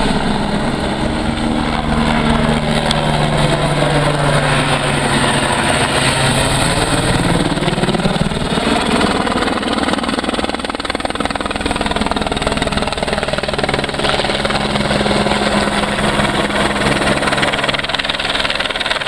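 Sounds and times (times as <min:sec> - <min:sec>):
helicopter engine running: 0:00.0 - 0:19.0
helicopter rotor beat: 0:00.0 - 0:19.0.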